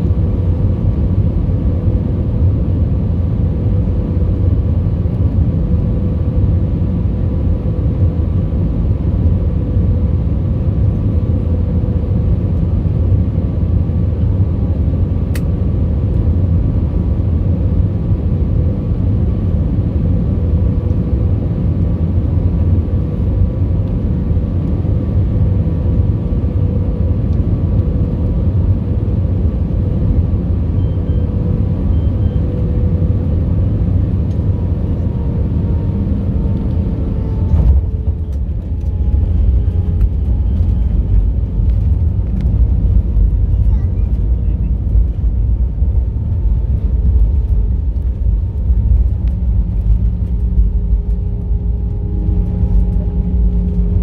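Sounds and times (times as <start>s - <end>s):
airflow and jet engine rumble: 0.0s - 54.0s.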